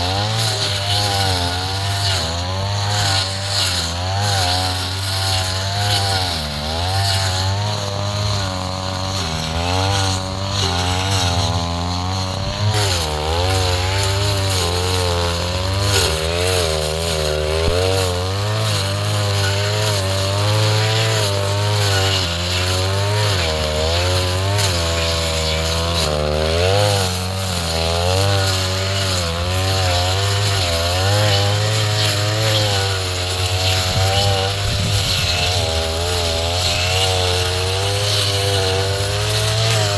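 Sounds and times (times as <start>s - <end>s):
brush cutter engine running hard: 0.0s - 39.9s.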